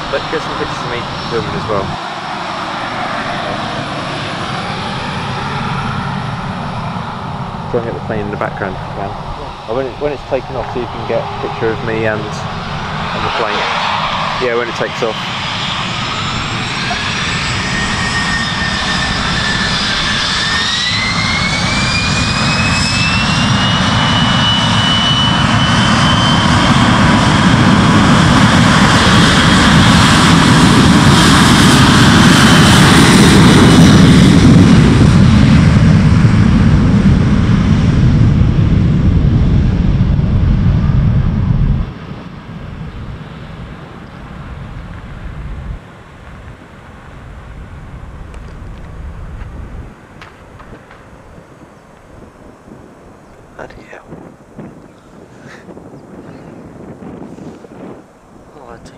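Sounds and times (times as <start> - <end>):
jet engines spooling up: 0.0 - 58.9
rising engine whine: 0.0 - 58.9.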